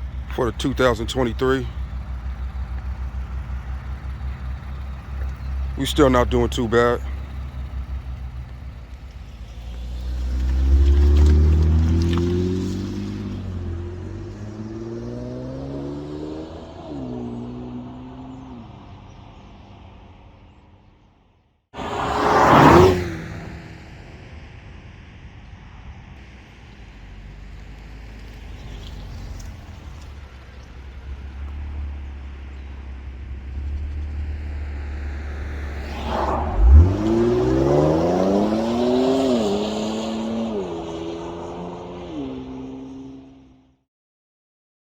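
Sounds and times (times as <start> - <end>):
car exhaust accelerating: 0.0 - 18.8, 21.8 - 24.4, 27.0 - 43.2.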